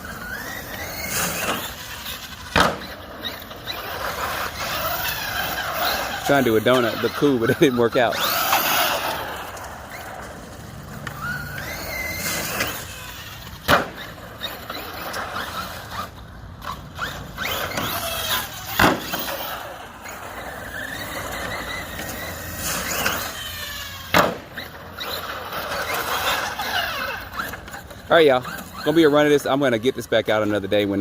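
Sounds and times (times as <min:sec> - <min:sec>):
rc truck sharp impacts: 0:00.0 - 0:29.6
rc truck motor whine: 0:00.0 - 0:31.0
tyres scrubbing on concrete: 0:00.0 - 0:31.0.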